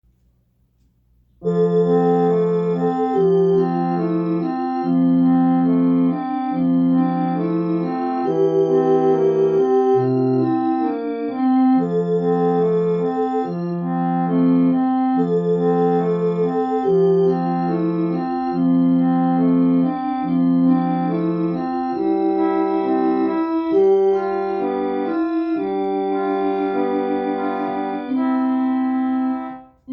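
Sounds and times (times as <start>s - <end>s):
repeating keyboard bass note: 1.4s - 29.9s
slow keyboard melody: 1.4s - 29.9s.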